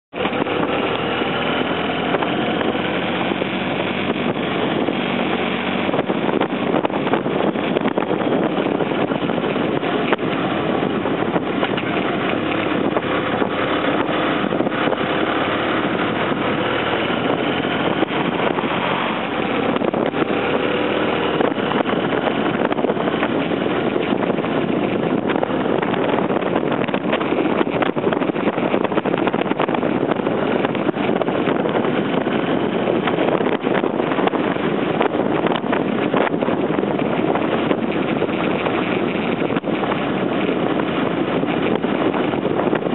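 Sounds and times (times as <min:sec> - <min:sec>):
motorcycle engine running: 0:00.1 - 0:42.9
wind and road noise: 0:00.1 - 0:42.9.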